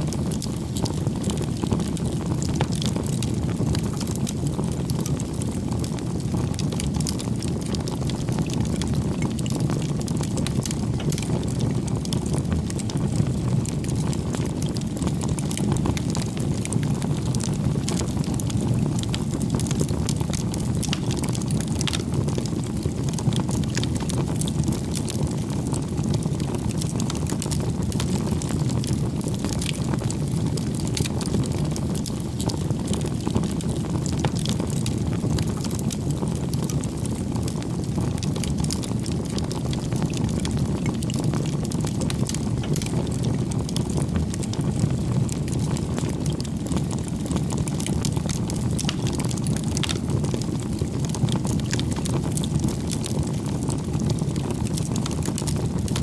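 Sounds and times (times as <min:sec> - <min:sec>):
campfire crackling: 0:00.1 - 0:56.0.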